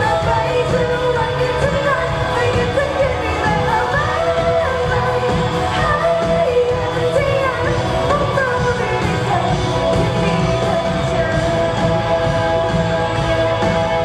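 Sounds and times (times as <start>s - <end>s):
pop song with vocals: 0.0s - 14.0s.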